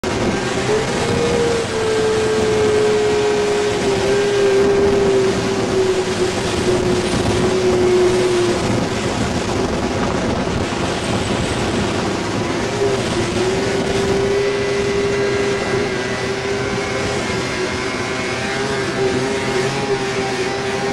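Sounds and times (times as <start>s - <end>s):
snowmobile engine revving high: 0.0s - 9.6s, 11.0s - 20.9s
rushing water: 0.0s - 20.9s.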